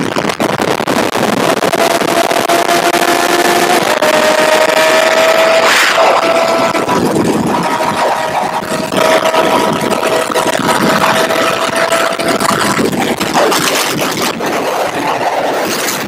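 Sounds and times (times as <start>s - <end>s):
engine whine: 0.0s - 16.0s
motorcycle engine cruising: 0.0s - 16.0s
wind rush on microphone: 0.0s - 16.0s.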